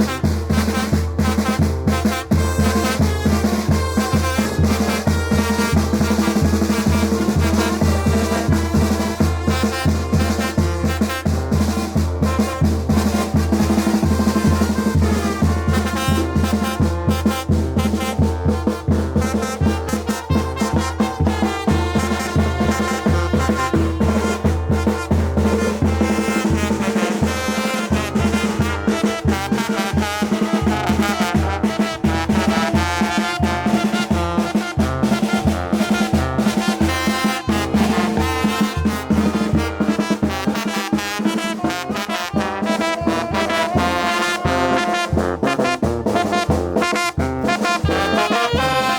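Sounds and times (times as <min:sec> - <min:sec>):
brass and wind instruments: 0:00.0 - 0:48.9
driving drum beat: 0:00.0 - 0:48.9.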